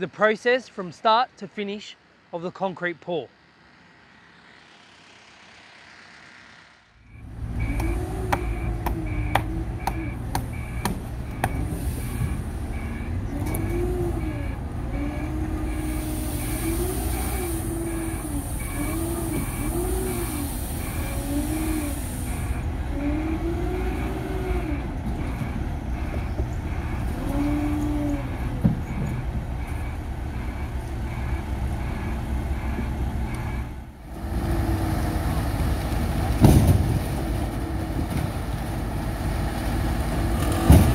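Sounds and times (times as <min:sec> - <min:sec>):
diesel engines rumbling: 0:00.0 - 0:40.9.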